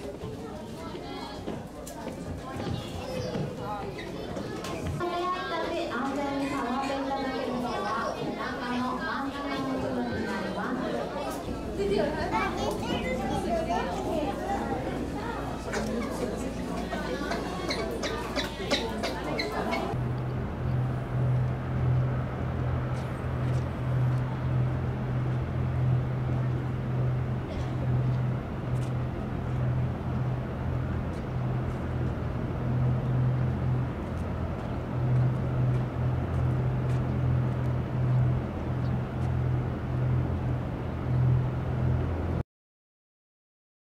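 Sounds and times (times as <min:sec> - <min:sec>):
low engine-like hum: 0:00.0 - 0:42.4.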